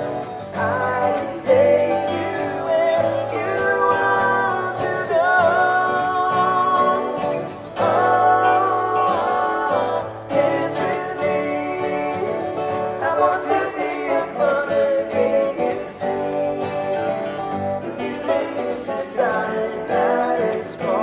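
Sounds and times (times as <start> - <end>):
acoustic guitars strummed: 0.0 - 21.0
person singing: 0.0 - 21.0.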